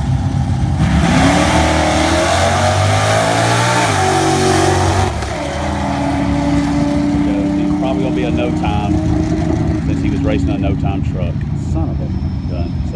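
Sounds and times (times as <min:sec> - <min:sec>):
drag car engine accelerating: 0:00.0 - 0:12.9.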